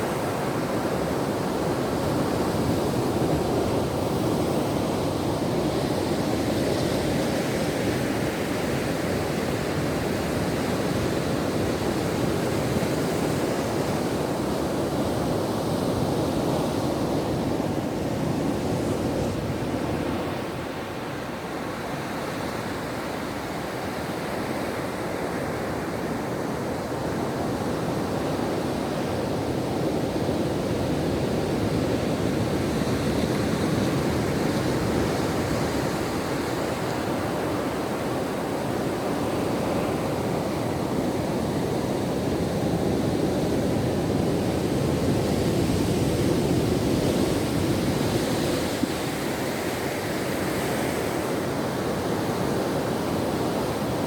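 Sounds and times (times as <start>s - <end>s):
ocean surf washing ashore: 0.0s - 54.0s.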